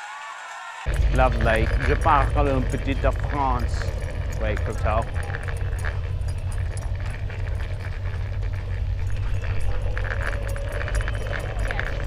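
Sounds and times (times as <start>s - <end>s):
harness and leash clinking: 0.9s - 12.0s
skateboard wheels rolling on asphalt: 0.9s - 12.0s.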